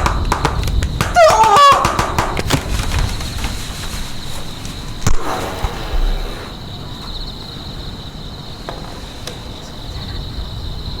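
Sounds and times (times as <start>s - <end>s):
cricket-like trill: 0.0s - 11.0s.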